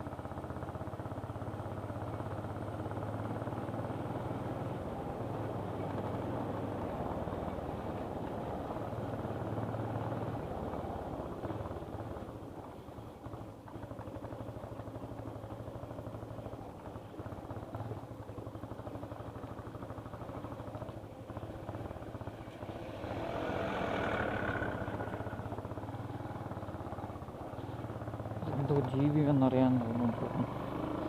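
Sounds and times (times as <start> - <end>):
small motorcycle engine running: 0.0 - 31.0.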